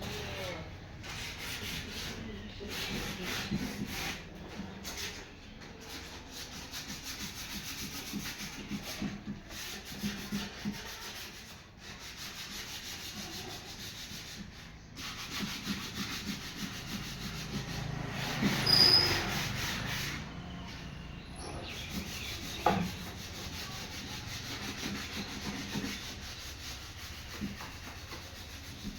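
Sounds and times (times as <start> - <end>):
hand rubbing wood: 0.0 - 28.9.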